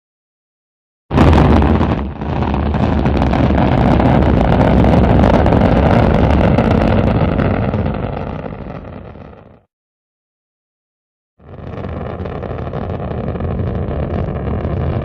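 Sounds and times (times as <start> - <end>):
rocket engine rumble with crackle: 1.1 - 9.7, 11.4 - 15.0.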